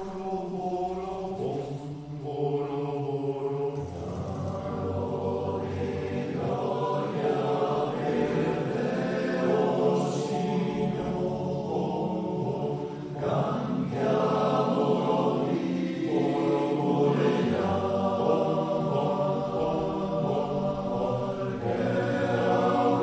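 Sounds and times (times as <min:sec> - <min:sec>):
male choir singing: 0:00.0 - 0:23.0.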